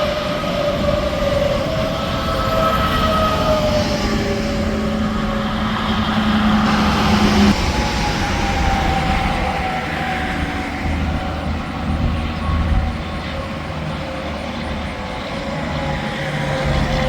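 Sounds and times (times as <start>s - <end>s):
highway traffic rushing by: 0.0s - 17.0s.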